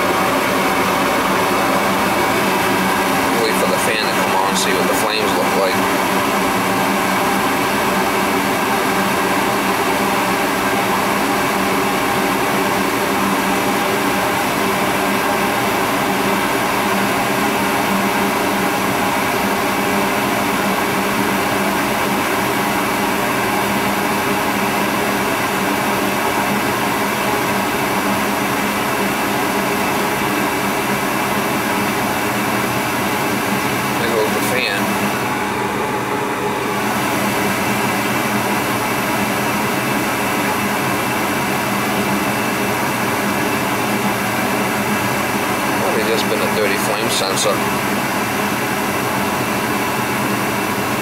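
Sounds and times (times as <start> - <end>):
gas furnace burners rushing: 0.0 - 24.4, 28.0 - 49.6
faint hum: 0.0 - 25.1, 26.8 - 49.8
furnace fan noise: 0.0 - 51.0.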